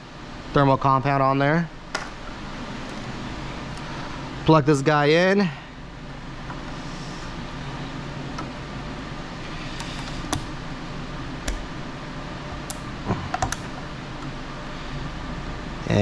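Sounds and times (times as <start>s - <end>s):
steady room hum: 0.0s - 16.0s.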